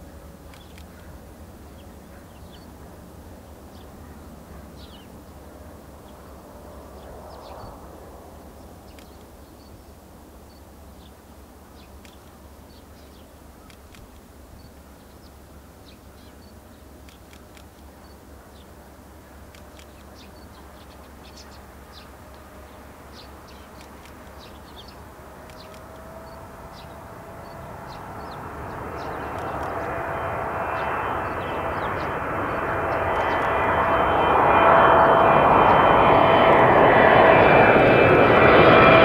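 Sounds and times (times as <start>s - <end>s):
jet engine rumble: 0.0s - 39.0s
steady engine whine: 0.0s - 39.0s.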